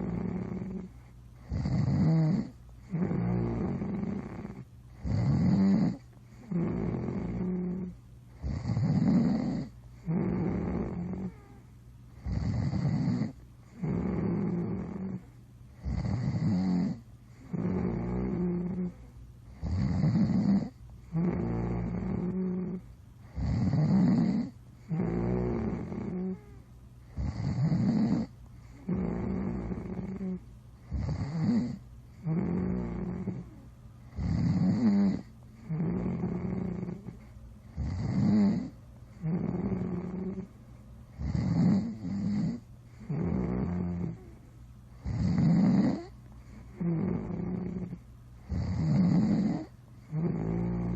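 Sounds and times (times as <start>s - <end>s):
loud snoring: 0.0s - 11.6s, 12.2s - 40.5s, 41.2s - 44.4s, 45.0s - 50.9s
quiet breathing: 0.0s - 50.9s.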